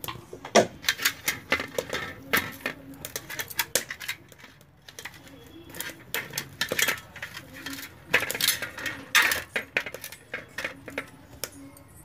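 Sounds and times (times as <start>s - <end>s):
fish scraping on a metal plate: 0.6s - 11.6s.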